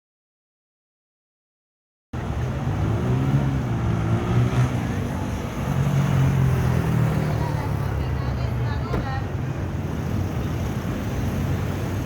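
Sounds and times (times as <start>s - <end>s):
city street traffic: 2.2s - 12.0s.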